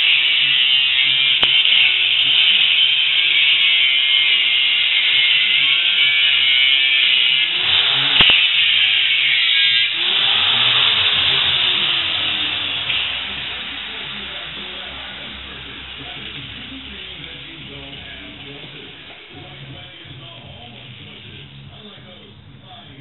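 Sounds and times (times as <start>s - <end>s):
angle grinder cutting steel: 0.0s - 22.1s.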